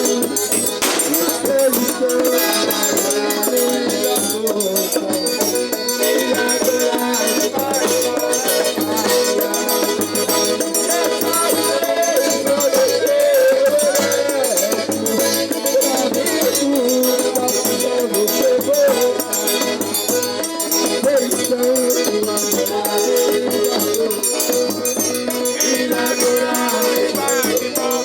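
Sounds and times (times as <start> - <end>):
accordion chords: 0.0 - 28.0.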